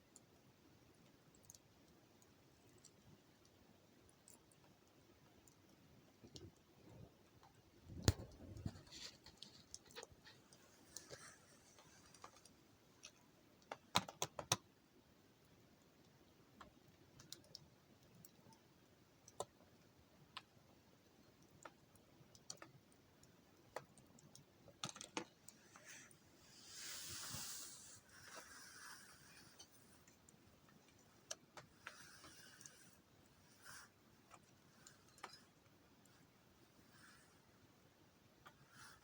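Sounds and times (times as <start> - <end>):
faint wood fire crackling: 0.0 - 39.0.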